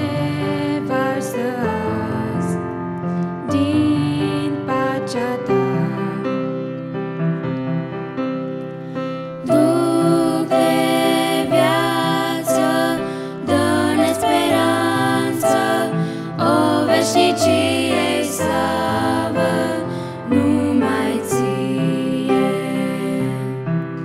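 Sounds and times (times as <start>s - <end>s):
young female voices singing: 0.0s - 2.6s, 3.4s - 6.5s, 9.4s - 23.6s
grand piano: 0.0s - 24.0s.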